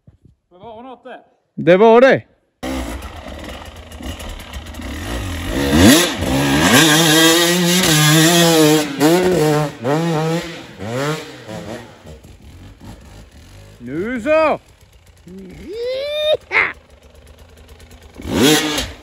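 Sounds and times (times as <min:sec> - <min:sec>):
dirt bike engine revving: 0:02.6 - 0:19.0.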